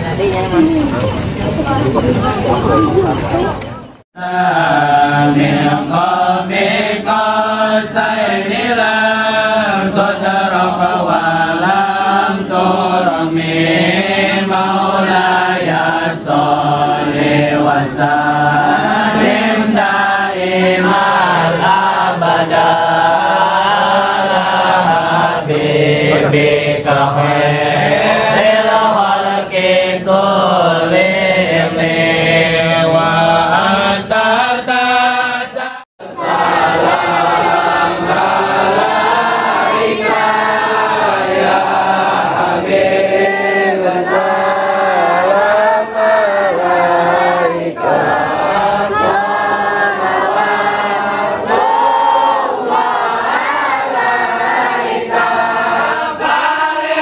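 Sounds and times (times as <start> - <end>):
men chanting in unison: 4.2 - 57.0.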